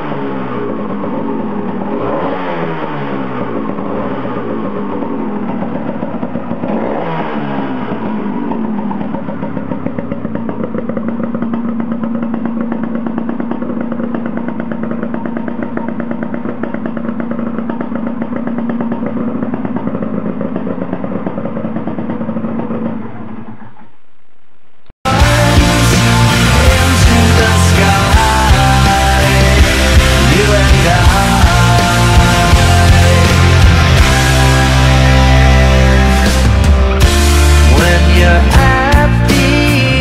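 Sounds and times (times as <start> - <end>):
two-stroke motorcycle engine revving: 0.0 - 23.8, 25.1 - 40.0.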